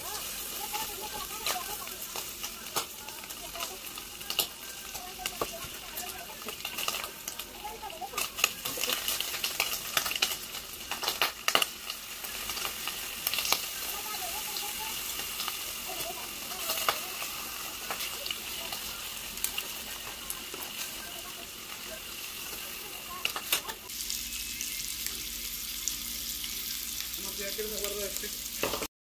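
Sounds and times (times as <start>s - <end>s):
fat popping and crackling: 0.0s - 23.9s
bacon sizzling in a pan: 0.0s - 28.9s.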